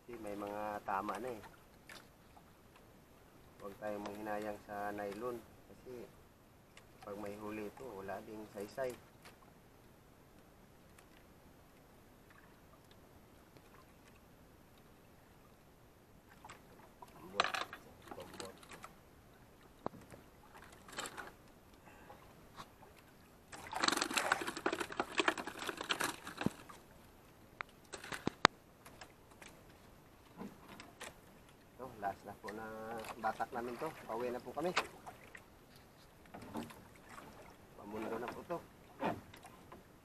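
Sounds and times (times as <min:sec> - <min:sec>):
water splashing and trickling: 0:00.0 - 0:10.0, 0:10.9 - 0:40.0.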